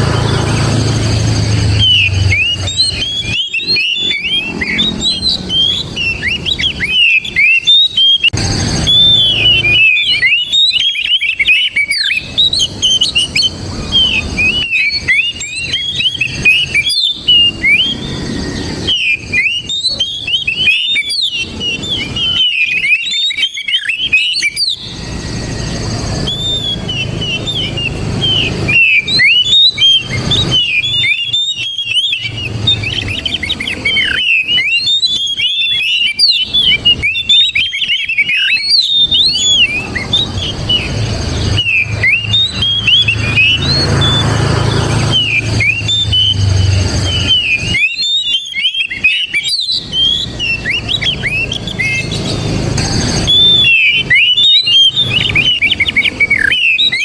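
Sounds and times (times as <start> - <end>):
magpie-robin singing whistled notes: 0.0 - 57.0.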